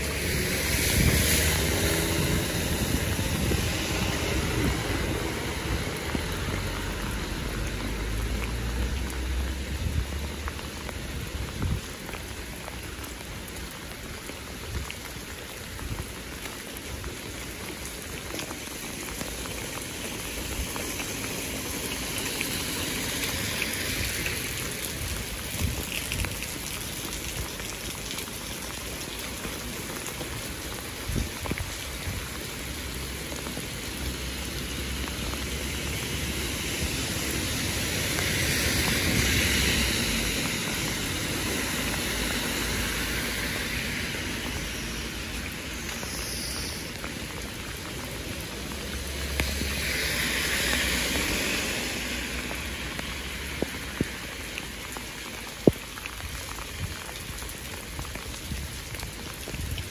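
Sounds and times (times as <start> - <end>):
cars passing on wet road: 0.0 - 59.9
rain on wet pavement: 0.0 - 59.9.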